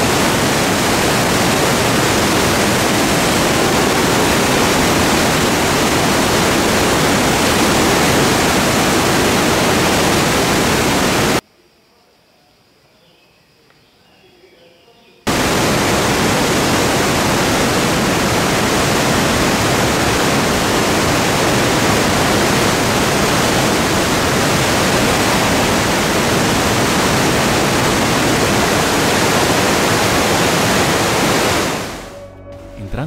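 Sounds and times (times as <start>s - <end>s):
water rushing over boulders: 0.0s - 11.4s, 15.3s - 32.1s.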